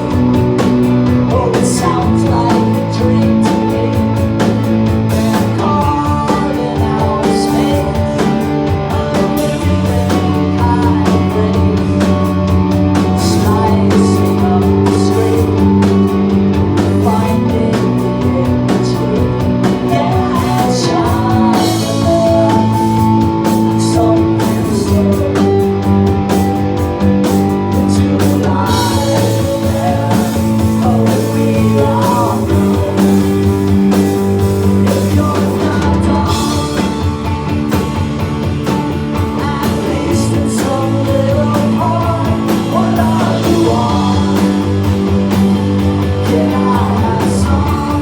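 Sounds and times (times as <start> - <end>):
bass guitar: 0.0 - 48.0
electric guitars sustained chords: 0.0 - 48.0
steady drum beat: 0.0 - 48.0.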